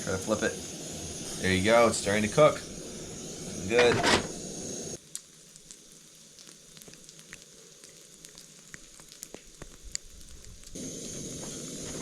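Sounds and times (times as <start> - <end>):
dough sizzling with crackles: 0.0 - 12.0
steady hiss: 0.0 - 12.0.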